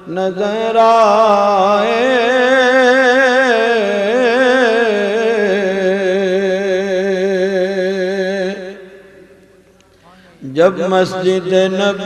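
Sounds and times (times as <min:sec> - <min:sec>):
man singing unaccompanied: 0:00.0 - 0:08.8, 0:10.4 - 0:12.0.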